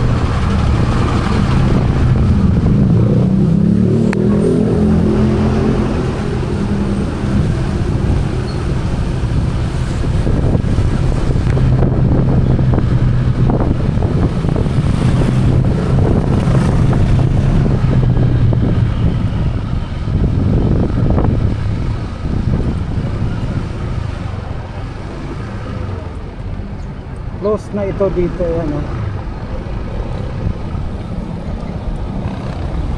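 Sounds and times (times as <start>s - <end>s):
wind buffeting microphone: 0.0s - 27.4s, 28.9s - 32.9s
road traffic: 0.0s - 32.9s.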